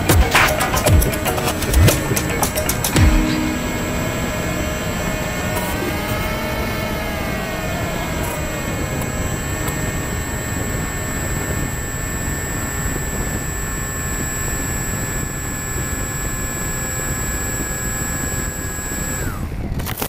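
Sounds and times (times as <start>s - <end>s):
model aircraft motor whine: 3.6s - 20.0s.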